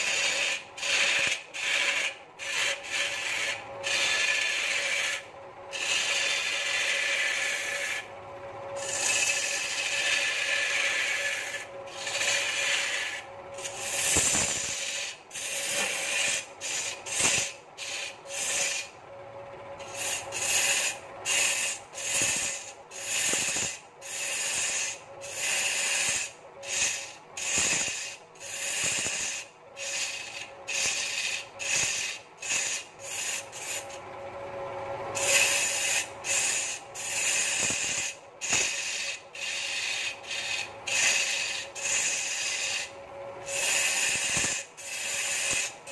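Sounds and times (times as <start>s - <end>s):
turning tool scraping wood: 0.0s - 18.9s, 19.8s - 34.0s, 35.1s - 45.9s
lathe humming: 0.0s - 45.9s.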